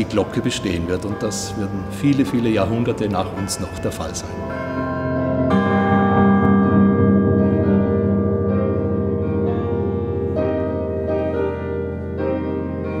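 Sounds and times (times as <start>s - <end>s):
slow ringing chords music: 0.0s - 13.0s.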